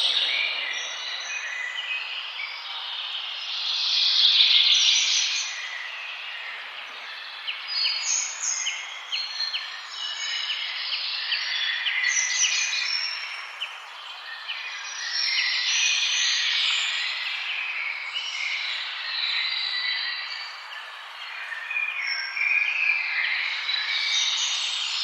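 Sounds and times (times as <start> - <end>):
forest birds singing: 0.0 - 25.0.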